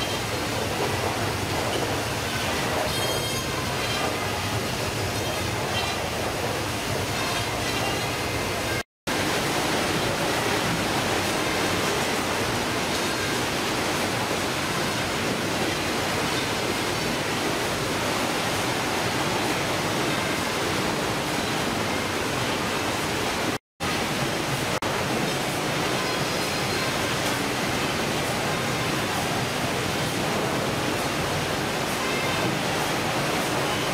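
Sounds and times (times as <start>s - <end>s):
conveyors running: 0.0s - 33.9s
processing machinery: 0.0s - 33.9s
running water: 0.0s - 33.9s.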